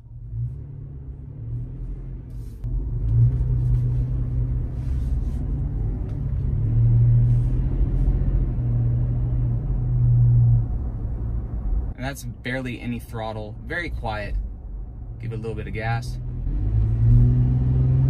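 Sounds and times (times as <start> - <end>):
car exhaust drone: 0.0 - 18.0.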